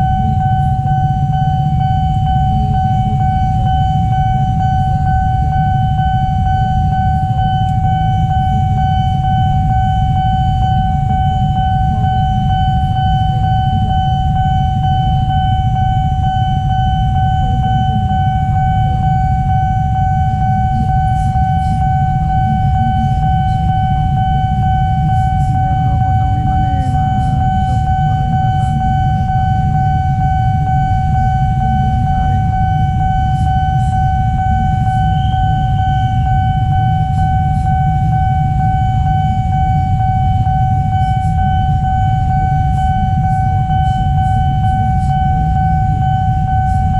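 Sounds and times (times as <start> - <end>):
idling traffic rumble: 0.0 - 46.9
level crossing alarm tone: 0.0 - 46.9.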